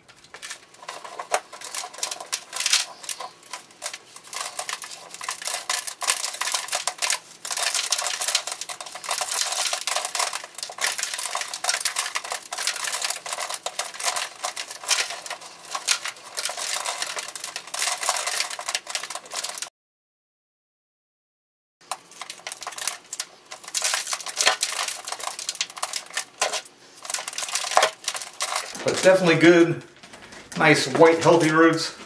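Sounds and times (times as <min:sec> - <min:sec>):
gritty soil scraping and raking: 0:00.0 - 0:19.7, 0:21.8 - 0:29.7.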